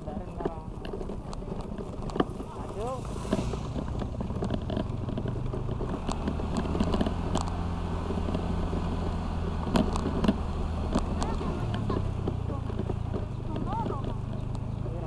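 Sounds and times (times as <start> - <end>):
knocks and rattles from bumps: 0.0 - 15.0
scooter engine running: 0.0 - 15.0.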